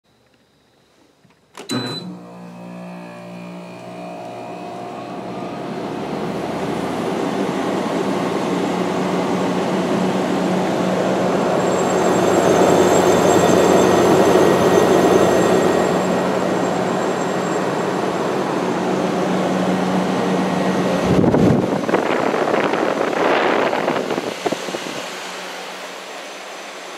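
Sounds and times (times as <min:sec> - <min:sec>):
air conditioner hum: 0:00.5 - 0:26.9
fan rush of air: 0:02.4 - 0:26.9.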